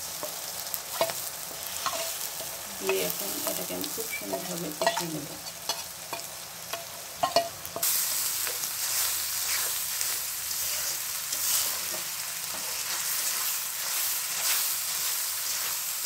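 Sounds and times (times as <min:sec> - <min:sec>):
paste sizzling in hot oil: 0:00.0 - 0:16.0
spatula scraping pan: 0:00.9 - 0:15.8.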